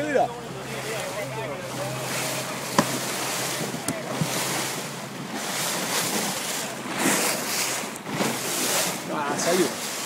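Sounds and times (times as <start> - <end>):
water splashing along boat hull: 0.0 - 10.0
wind buffeting microphone: 0.5 - 10.0.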